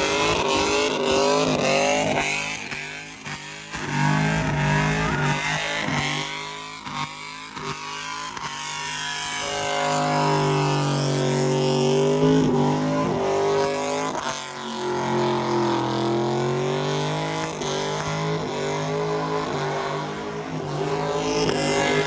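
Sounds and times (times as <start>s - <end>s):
engine at high revs: 0.0s - 22.0s.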